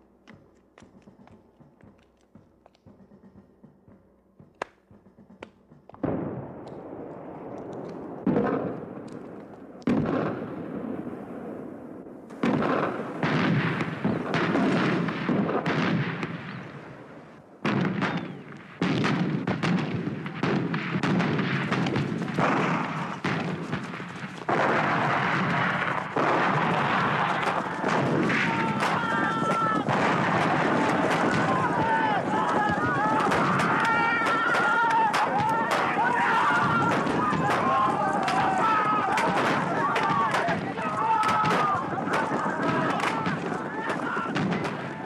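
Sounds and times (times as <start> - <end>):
gunfire: 4.5 - 11.0, 12.3 - 17.0, 17.6 - 45.0
explosion blasts: 6.0 - 17.0, 17.6 - 45.0.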